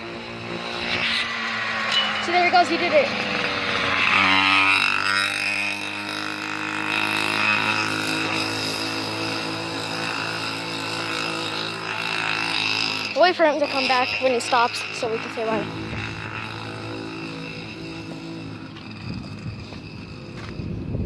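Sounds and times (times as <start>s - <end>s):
small motorcycle engine running: 0.0s - 21.0s.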